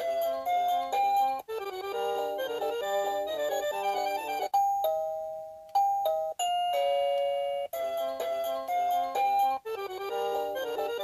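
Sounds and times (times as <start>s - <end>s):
doorbell chime ringtone melodies: 0.0s - 11.0s.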